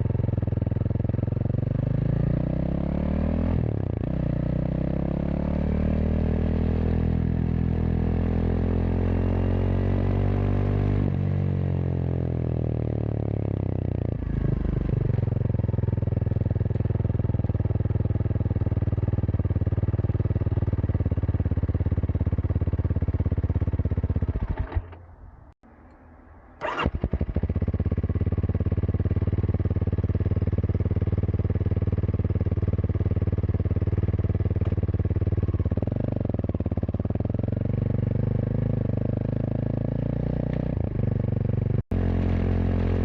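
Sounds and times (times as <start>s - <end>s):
motorcycle engine accelerating: 0.0s - 25.0s, 25.7s - 43.0s.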